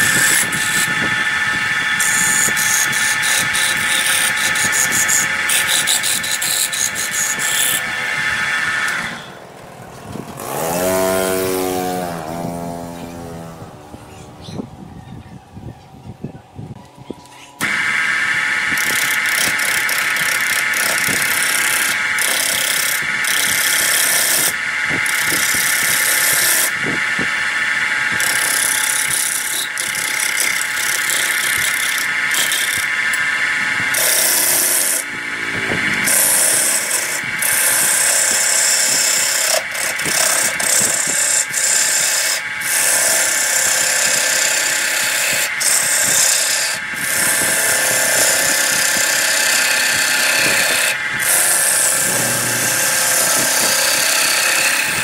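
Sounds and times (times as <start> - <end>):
wood lathe whining: 0.0 - 14.6, 17.6 - 55.0.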